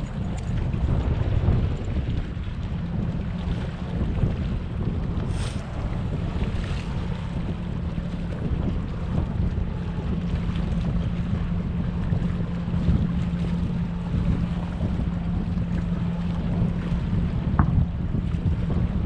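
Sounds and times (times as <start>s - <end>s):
low engine hum: 0.0s - 19.0s
wind rumbling on microphone: 0.0s - 19.0s.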